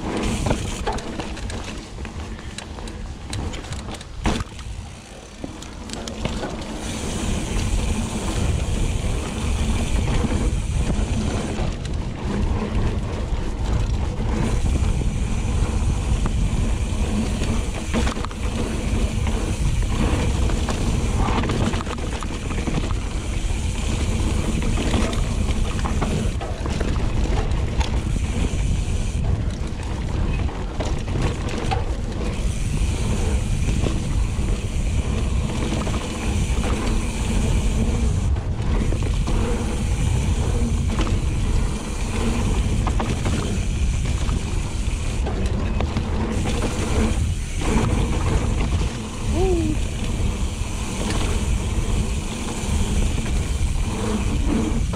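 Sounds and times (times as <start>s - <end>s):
bike rattling over bumps: 0.0s - 54.9s
tyre noise on dirt: 0.0s - 54.9s
wind rumble on microphone: 0.0s - 54.9s.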